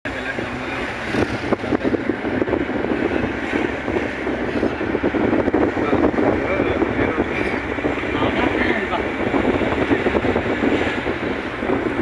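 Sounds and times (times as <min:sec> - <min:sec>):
engine and road noise: 0:00.0 - 0:12.0
wind buffeting microphone: 0:00.1 - 0:12.0.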